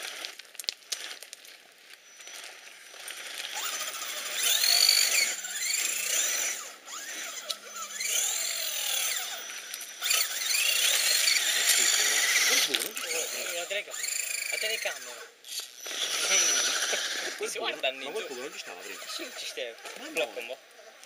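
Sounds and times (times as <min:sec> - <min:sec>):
electric motor whining: 0:02.0 - 0:20.7.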